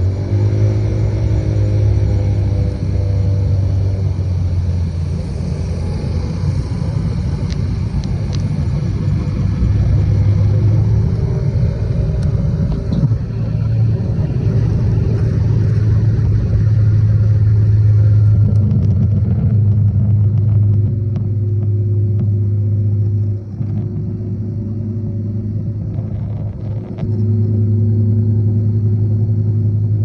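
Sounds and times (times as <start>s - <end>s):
motorcycle engine drone: 0.0s - 30.0s.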